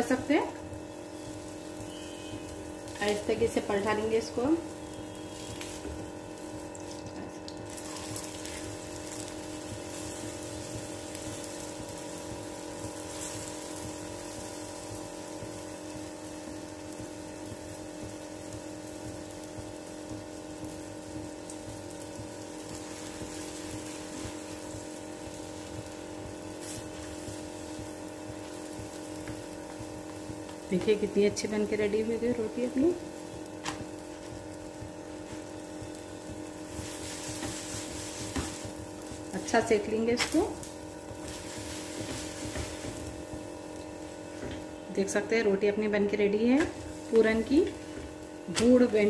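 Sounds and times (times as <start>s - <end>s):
constant hum: 0.0s - 49.0s
flatbread sizzling on a griddle: 0.0s - 49.0s.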